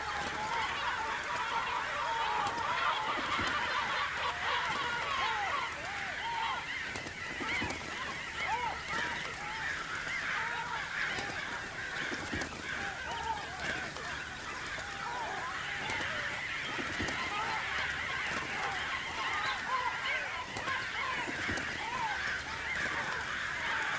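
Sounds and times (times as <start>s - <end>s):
flock of birds calling: 0.0s - 23.9s.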